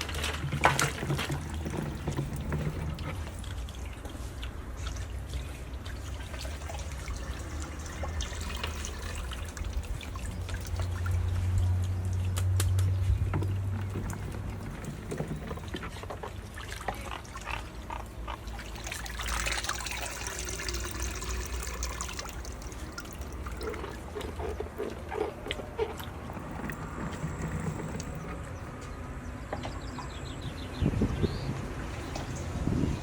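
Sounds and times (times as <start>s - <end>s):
liquid pouring and trickling: 0.0s - 28.4s.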